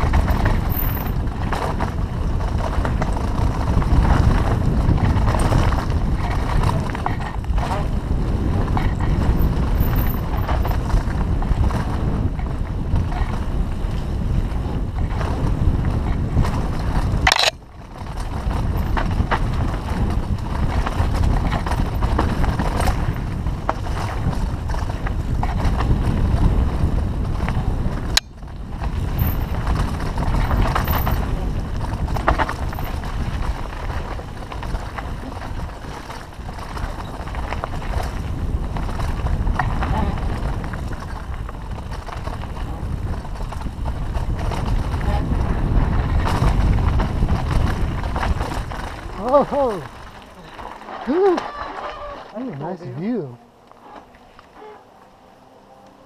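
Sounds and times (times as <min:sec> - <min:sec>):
bike tyres rumbling on trail: 0:00.0 - 0:56.0
wind rushing over microphone: 0:00.0 - 0:56.0.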